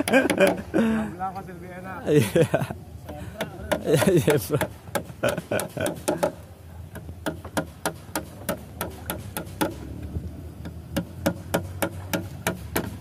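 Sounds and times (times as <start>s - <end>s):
sharp knocks on bamboo poles: 0.0s - 0.7s, 3.0s - 13.0s.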